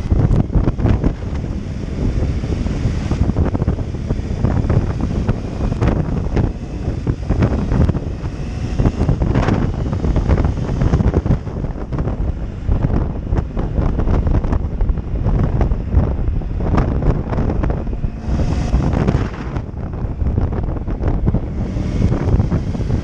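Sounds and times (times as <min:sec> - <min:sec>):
motorcycle noise: 0:00.0 - 0:23.0
wind buffeting microphone: 0:00.0 - 0:23.0.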